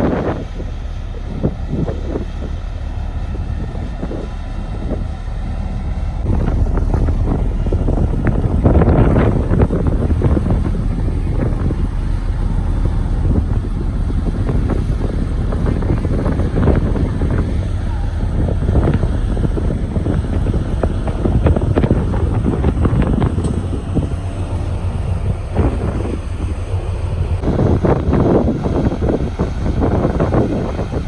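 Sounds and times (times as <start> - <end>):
diesel construction machinery rumbling: 0.0 - 31.0
wind buffeting microphone: 0.0 - 31.0.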